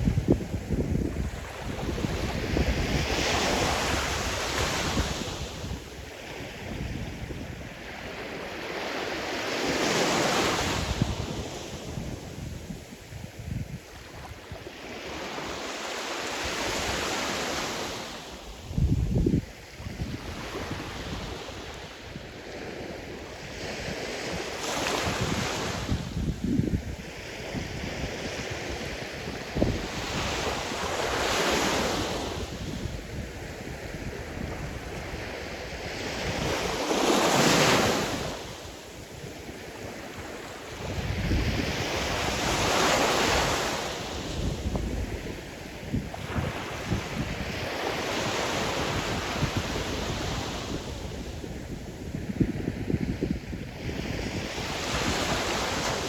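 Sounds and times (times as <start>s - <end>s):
wind buffeting microphone: 0.0s - 8.2s, 18.6s - 56.0s
waves breaking on shore: 0.0s - 56.0s.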